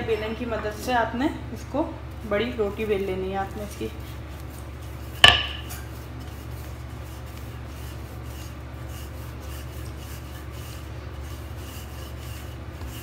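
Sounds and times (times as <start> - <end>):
steady low hum: 0.0 - 13.0
rolling pin rubbing over dough: 2.2 - 13.0.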